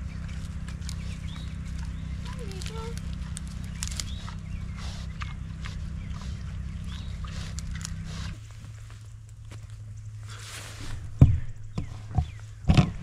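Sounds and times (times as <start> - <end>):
low hum: 0.0 - 13.0
pigs rooting in wood chips: 0.0 - 13.0.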